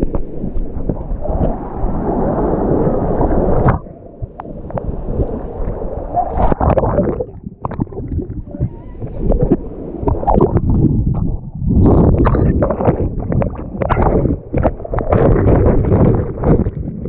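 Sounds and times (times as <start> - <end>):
water rushing and bubbling: 0.0 - 17.0
water splashing: 0.0 - 17.0.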